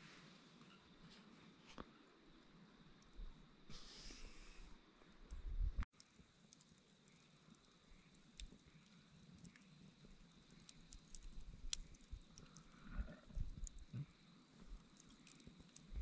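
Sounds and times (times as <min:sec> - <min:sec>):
campfire embers crackling: 0:00.5 - 0:16.0.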